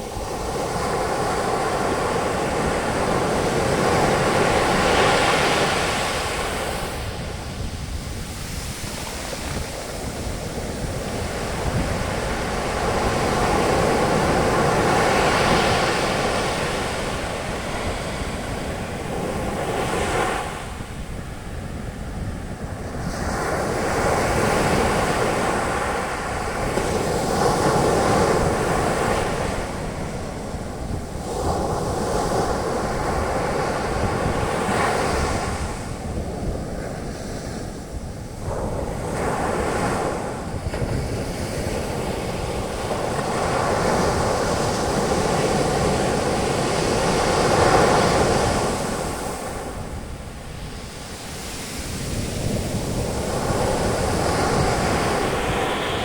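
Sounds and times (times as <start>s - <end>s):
sea waves breaking on beach: 0.0s - 56.0s
wind buffeting microphone: 0.0s - 56.0s.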